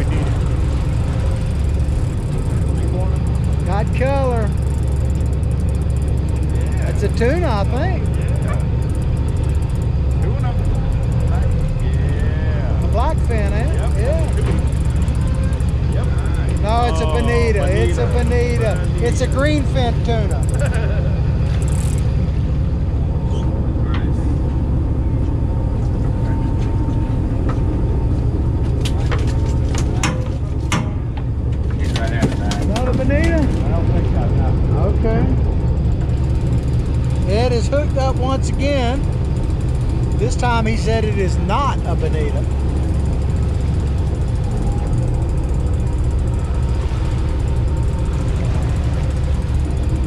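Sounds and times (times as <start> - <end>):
boat engine rumbling: 0.0 - 50.0.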